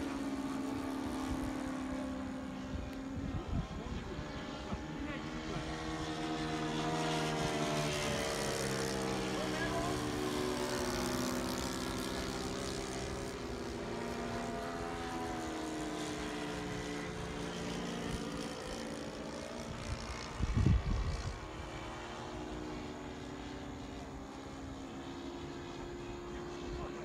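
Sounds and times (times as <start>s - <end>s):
model planes droning overhead: 0.0s - 27.0s.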